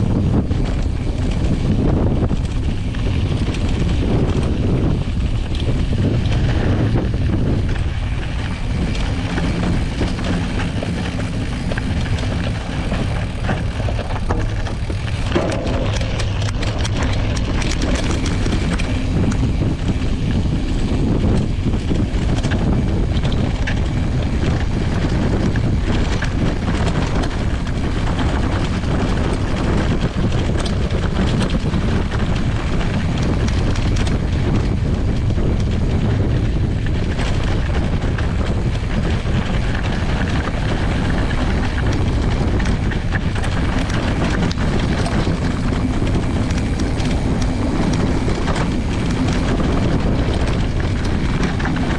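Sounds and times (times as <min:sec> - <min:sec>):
small ticks and rattles: 0:00.0 - 0:51.9
wind rumble on microphone: 0:00.0 - 0:51.9
tyre rolling over gravel: 0:01.0 - 0:51.9.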